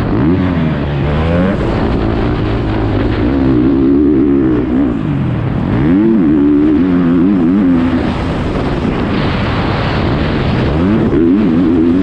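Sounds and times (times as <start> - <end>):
motocross engine revving: 0.0 - 12.0
wind over microphone: 0.0 - 12.0.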